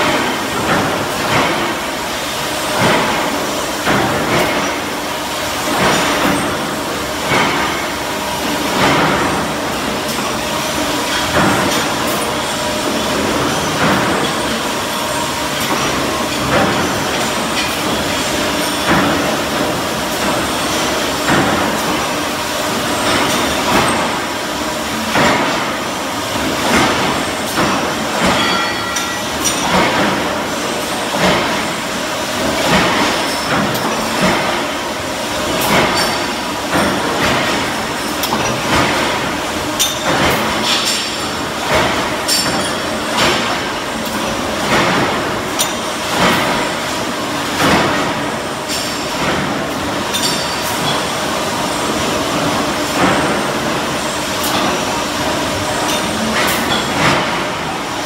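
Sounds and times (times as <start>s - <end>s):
production line machinery running: 0.0s - 58.0s.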